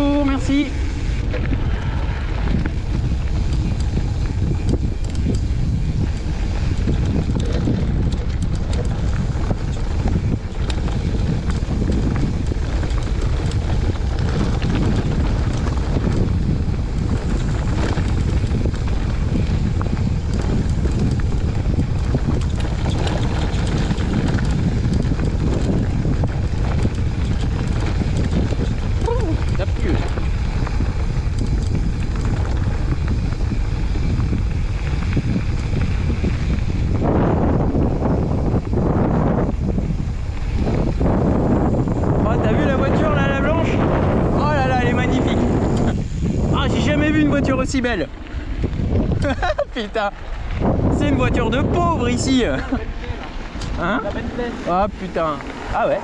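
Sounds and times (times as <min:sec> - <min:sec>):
bike rattling clicks: 0:00.0 - 0:56.0
tyres rolling on gravel: 0:00.0 - 0:56.0
wind buffeting microphone: 0:00.0 - 0:56.0.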